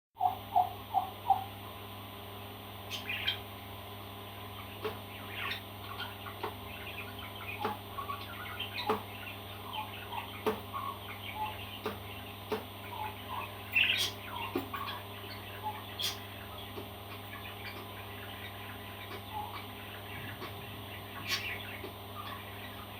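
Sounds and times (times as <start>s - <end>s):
parrot chirping and squawking: 2.9s - 3.5s, 4.6s - 22.9s.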